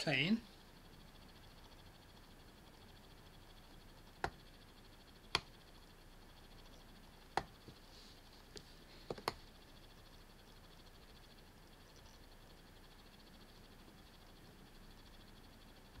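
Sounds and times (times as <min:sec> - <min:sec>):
faint steady hiss: 0:00.0 - 0:16.0
computer mouse clicking: 0:01.3 - 0:07.8, 0:08.4 - 0:15.2.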